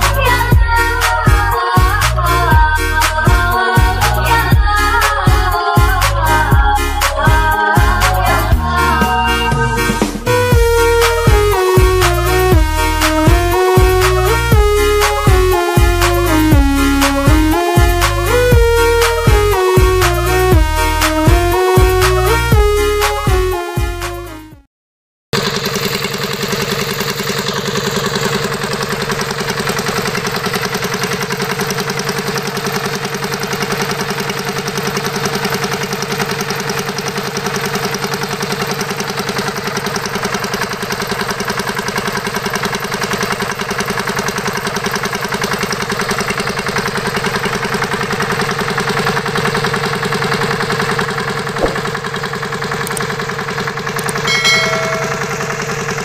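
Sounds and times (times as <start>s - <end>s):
small pump engine chugging: 0.0s - 21.1s, 25.4s - 56.0s.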